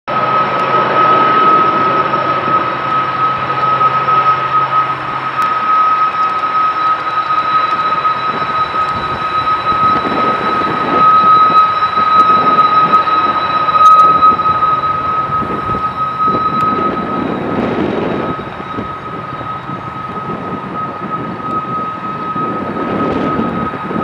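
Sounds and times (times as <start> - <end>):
constant high whine: 0.0 - 24.0
locomotive engine roar: 0.1 - 24.0.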